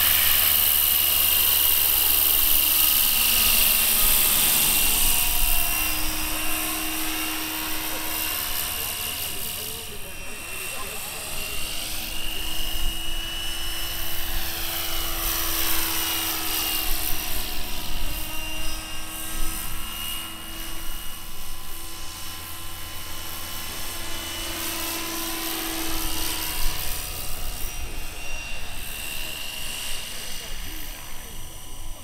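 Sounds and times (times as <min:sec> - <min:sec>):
electric motor whine: 0:00.0 - 0:32.0
rotor blades whirring: 0:00.0 - 0:32.0.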